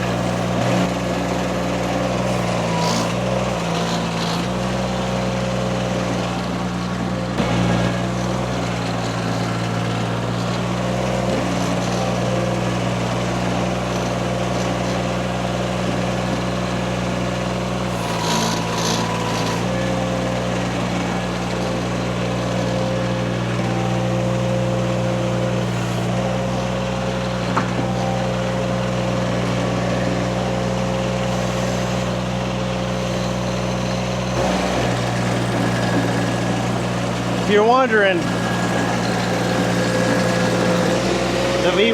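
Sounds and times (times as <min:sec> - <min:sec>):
skid steer engine running: 0:00.0 - 0:41.9.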